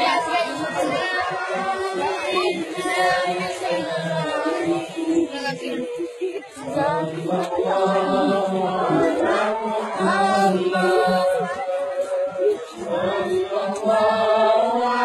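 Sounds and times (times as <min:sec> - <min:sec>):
group chanting devotional song: 0:00.0 - 0:15.0.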